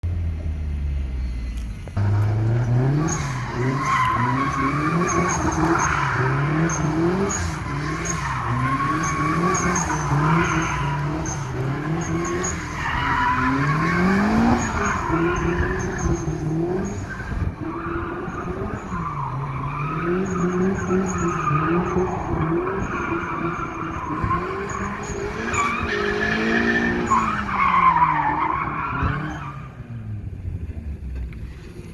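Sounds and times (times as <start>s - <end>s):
car engine revving: 0.0s - 31.9s
tyres squealing: 3.0s - 29.6s.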